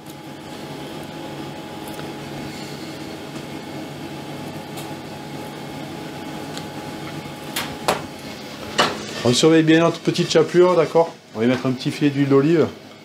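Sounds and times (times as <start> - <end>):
ventilation fan hum: 0.0 - 13.0.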